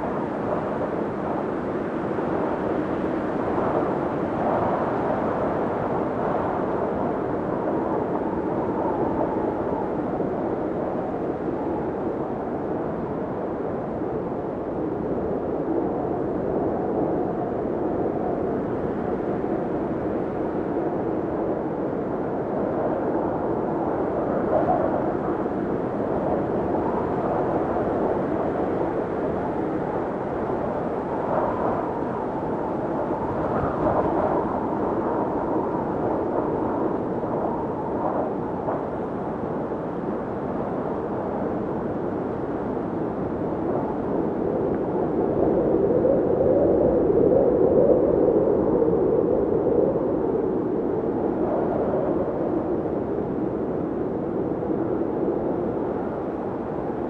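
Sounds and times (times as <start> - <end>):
blizzard wind blowing hard: 0.0 - 57.0.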